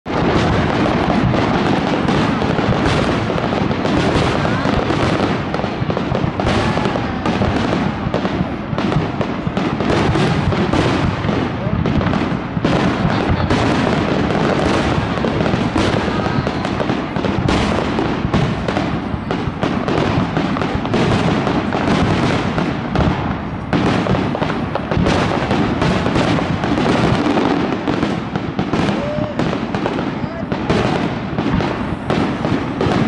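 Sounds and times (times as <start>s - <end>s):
fireworks bursting: 0.0s - 33.0s.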